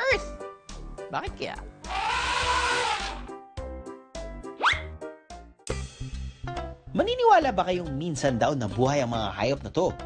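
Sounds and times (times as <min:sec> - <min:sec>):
bouncy children's tv music: 0:00.0 - 0:10.0.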